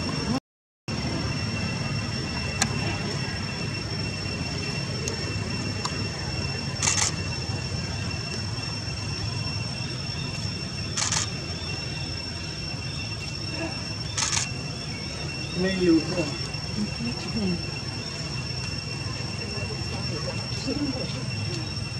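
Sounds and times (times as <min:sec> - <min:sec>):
thin high whine: 0:00.0 - 0:21.9.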